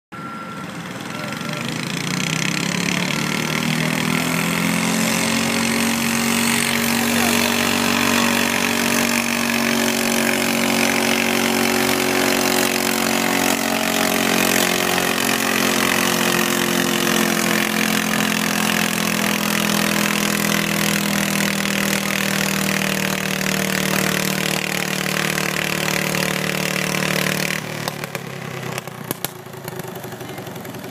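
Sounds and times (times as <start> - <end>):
garden tractor engine at full throttle: 0.2 - 30.9.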